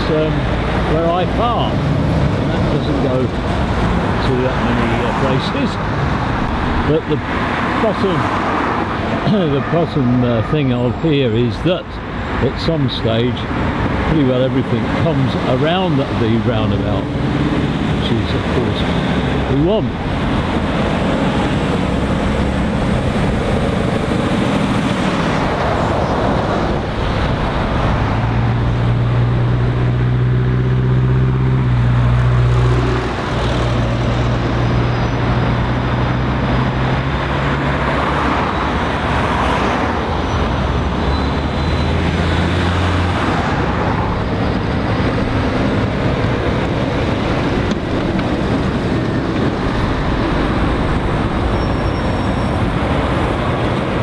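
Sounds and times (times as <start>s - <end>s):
lorry diesel engine drone: 0.0s - 54.0s
road traffic: 0.0s - 54.0s.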